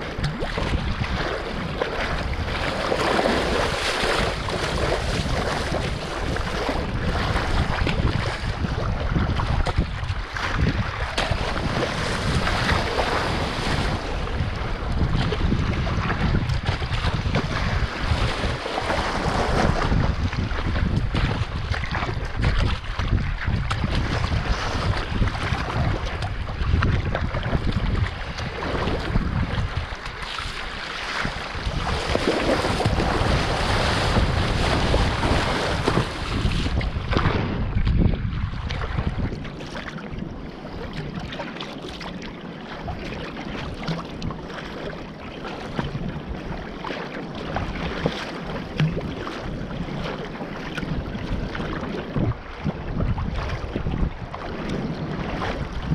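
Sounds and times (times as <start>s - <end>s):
sea water splashing around kayak: 0.0s - 55.9s
wind rumbling on microphone: 0.0s - 55.9s.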